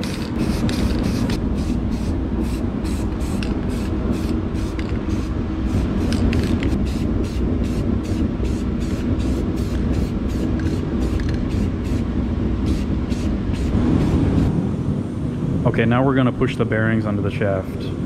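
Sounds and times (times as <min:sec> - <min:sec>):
paint spraying: 0:00.0 - 0:14.5
low rumble: 0:00.0 - 0:18.0.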